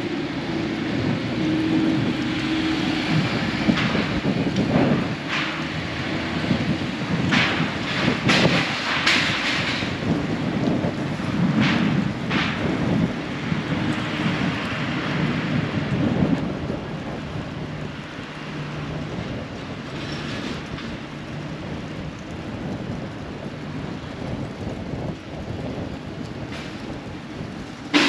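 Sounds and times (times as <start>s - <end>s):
street rumble: 0.0s - 28.0s.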